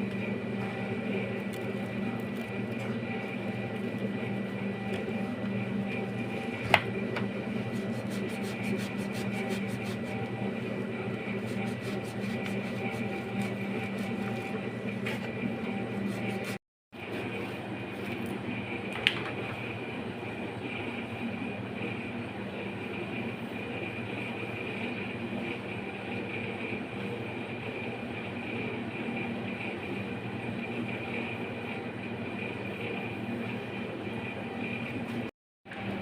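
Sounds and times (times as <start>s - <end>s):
mechanical hum with whine: 0.0s - 36.0s.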